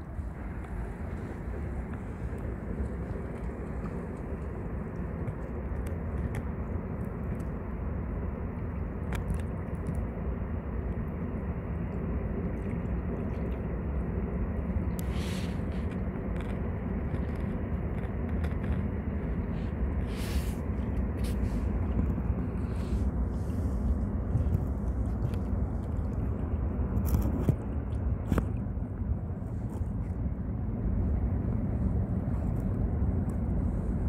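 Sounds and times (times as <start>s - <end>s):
low riverside rumble: 0.0s - 34.0s.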